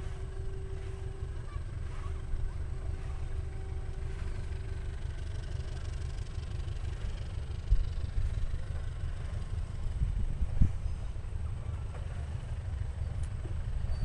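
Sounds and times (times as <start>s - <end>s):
distant train rumbling: 0.0s - 14.0s.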